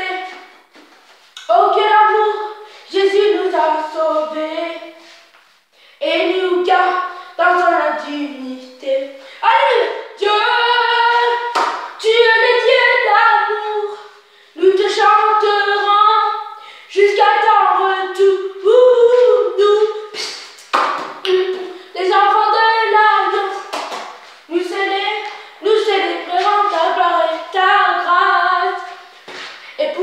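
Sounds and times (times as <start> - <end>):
person singing a cappella: 0.0 - 0.6, 1.4 - 5.3, 6.0 - 23.7, 24.5 - 30.0.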